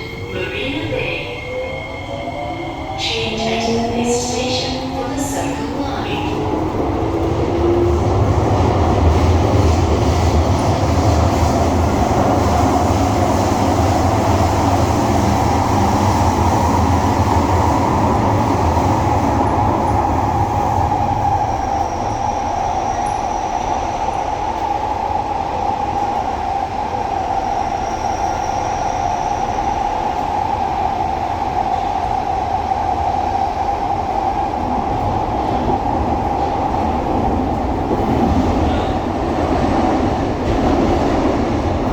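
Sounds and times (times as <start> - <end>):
train wheels rumbling on rails: 2.3 - 41.9.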